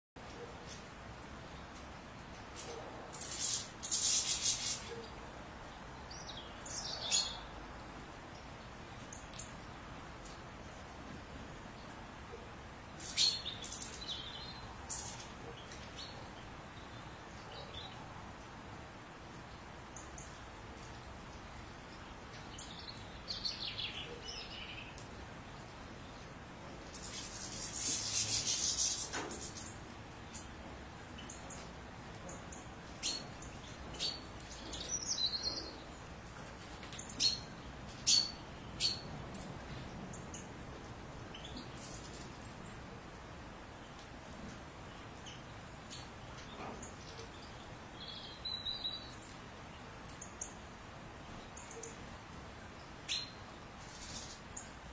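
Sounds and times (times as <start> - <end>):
steady background noise: 0.2 - 54.9.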